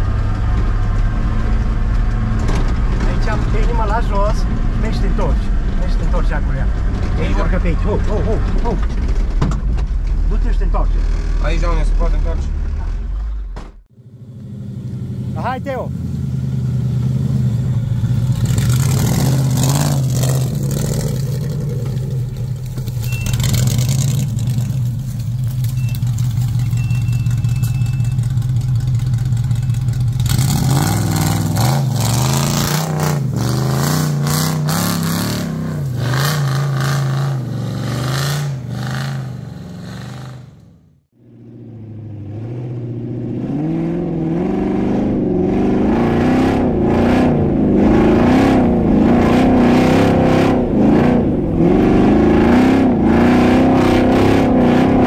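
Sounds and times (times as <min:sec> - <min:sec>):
off-road vehicle engine revving: 0:10.1 - 0:55.0.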